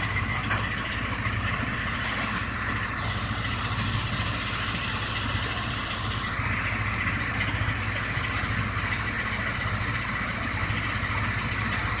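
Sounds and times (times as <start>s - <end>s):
tractor engine beat: 0.0s - 12.0s.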